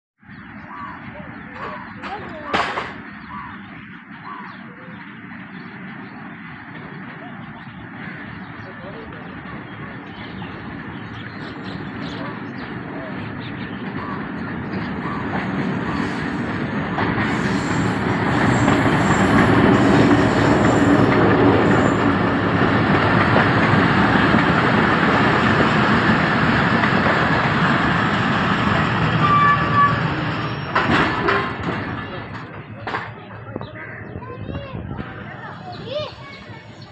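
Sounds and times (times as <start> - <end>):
train wheels rumbling on rails: 0.3 - 36.9.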